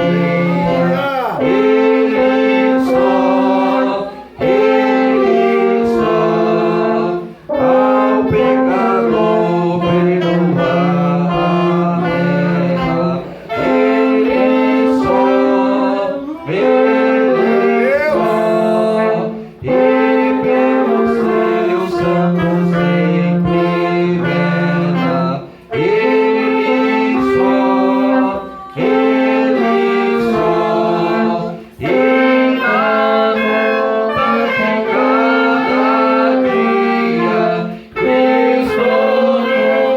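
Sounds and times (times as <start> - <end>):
wind band playing a hymn: 0.0 - 39.9.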